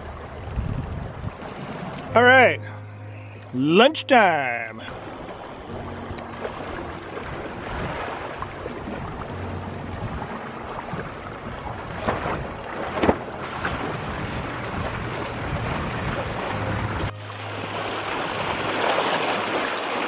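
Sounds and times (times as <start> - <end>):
wind buffeting microphone: 0.0 - 2.2, 4.9 - 19.7
water washing past boat: 0.0 - 2.8, 3.4 - 20.0.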